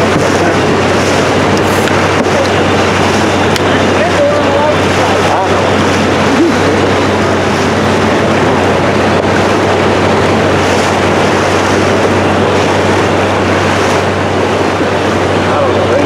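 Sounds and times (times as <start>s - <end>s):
choppy water rushing: 0.0s - 16.0s
motorboat engine humming: 0.0s - 16.0s
wind: 0.0s - 16.0s.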